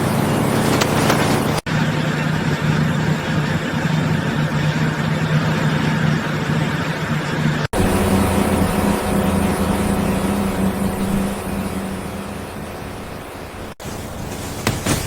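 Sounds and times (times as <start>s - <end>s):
machinery humming: 0.0s - 14.6s.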